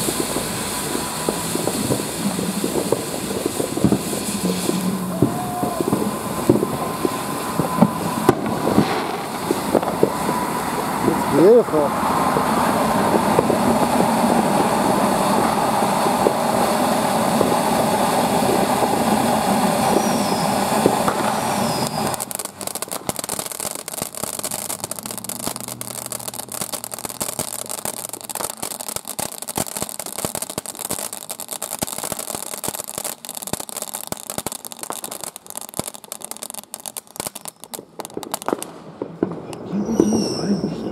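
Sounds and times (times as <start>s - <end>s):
firework fountain hissing and crackling: 0.0s - 40.9s.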